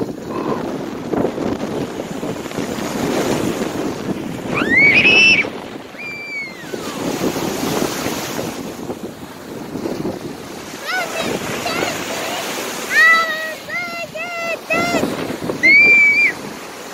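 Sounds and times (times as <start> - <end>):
waves washing onto shore: 0.0 - 16.9
wind buffeting microphone: 0.0 - 16.9.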